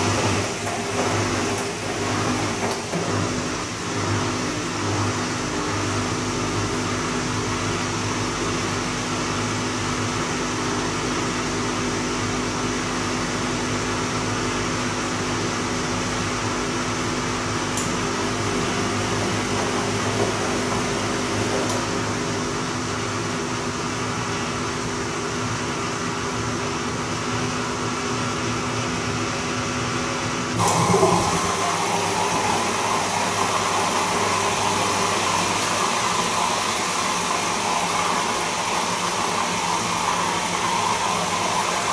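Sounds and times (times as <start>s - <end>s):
washing machine motor humming: 0.0s - 41.9s.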